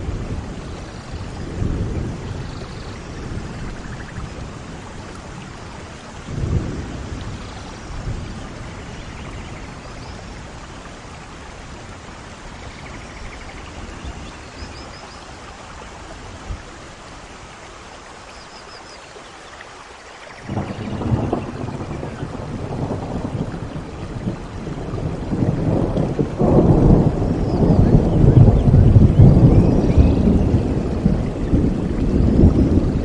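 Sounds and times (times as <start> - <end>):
thunder rumbling: 0.0 - 15.0, 20.4 - 33.0
rain on foliage: 0.0 - 33.0.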